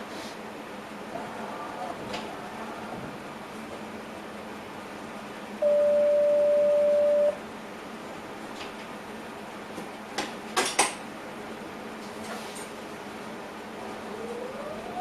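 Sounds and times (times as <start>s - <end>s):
low cab background noise: 0.0s - 15.0s.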